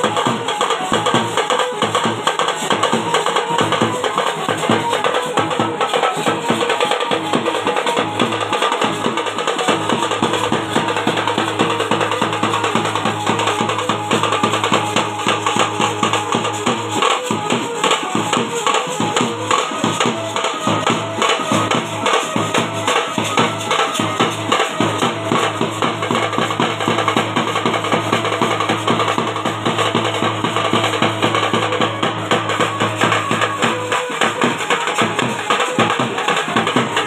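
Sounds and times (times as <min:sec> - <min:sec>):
drums beating fast rhythm: 0:00.0 - 0:37.0.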